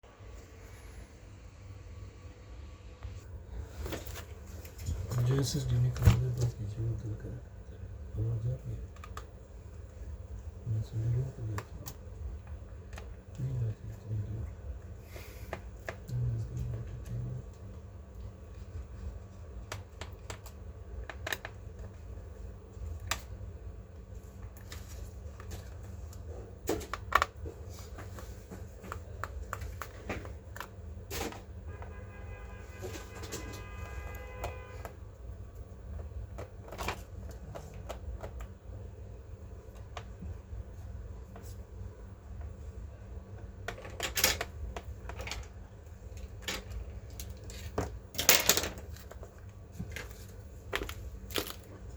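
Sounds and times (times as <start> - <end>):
low steady hum: 0.0 - 51.9.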